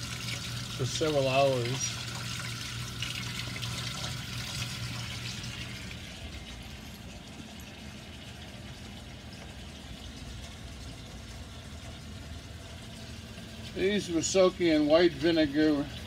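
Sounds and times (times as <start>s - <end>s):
low steady hum: 0.0s - 16.0s
tap water running into steel sink: 0.0s - 16.0s.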